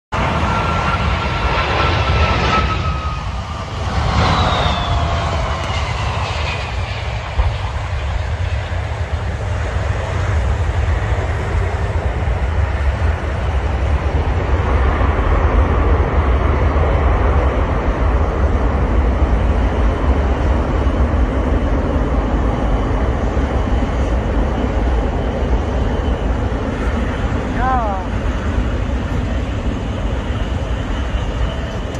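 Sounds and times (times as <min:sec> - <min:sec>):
jet engines running: 0:00.1 - 0:31.9.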